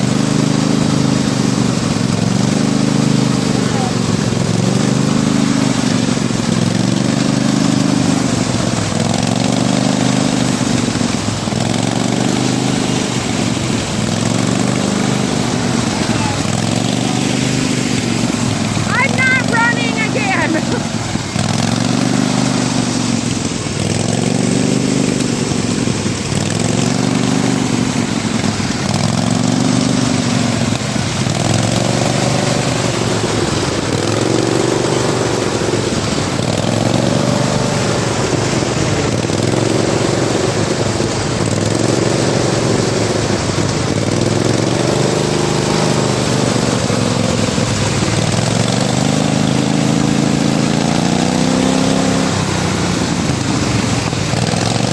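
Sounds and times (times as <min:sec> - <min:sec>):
riding lawnmower engine running: 0:00.0 - 0:54.9.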